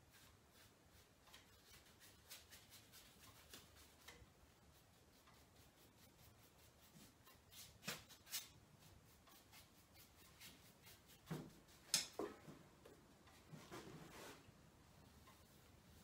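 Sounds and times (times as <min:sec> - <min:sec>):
paintbrush strokes on canvas: 0:00.0 - 0:11.9, 0:13.3 - 0:16.0.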